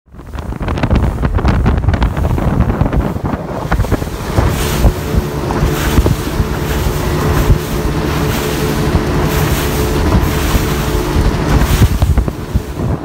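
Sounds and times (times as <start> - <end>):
boat engine drone: 0.1 - 13.0
water rushing past hull: 0.1 - 13.0
wind buffeting microphone: 0.1 - 13.0.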